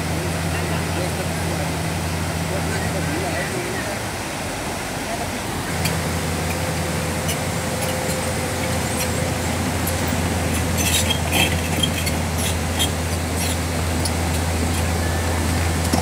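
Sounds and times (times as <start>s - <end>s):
diesel engine idling: 0.0s - 16.0s
river rushing: 0.0s - 16.0s.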